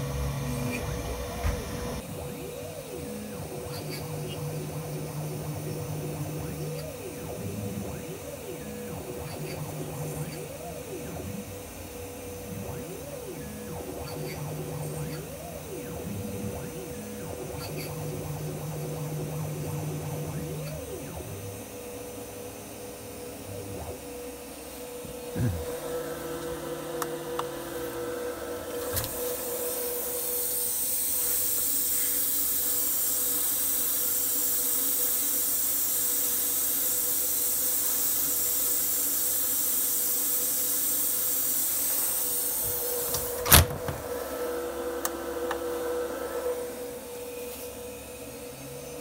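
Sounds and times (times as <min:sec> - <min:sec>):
mill spindle tone: 0:00.0 - 0:49.0
stepper motors whining: 0:00.0 - 0:49.0.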